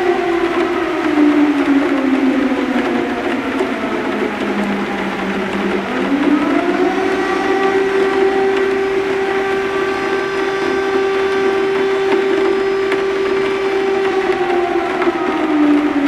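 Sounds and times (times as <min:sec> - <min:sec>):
heavy rain on window ledge: 0:00.0 - 0:16.0
warning siren wailing: 0:00.0 - 0:16.0.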